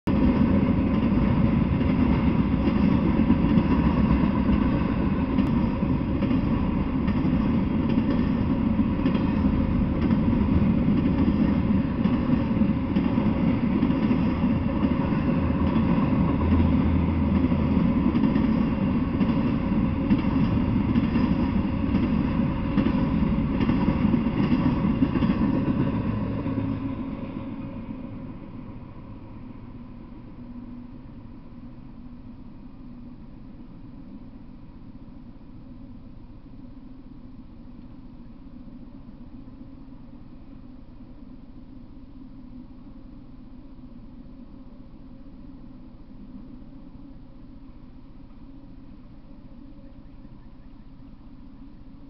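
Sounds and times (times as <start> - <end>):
freight train wheels on rails: 0.1 - 52.0.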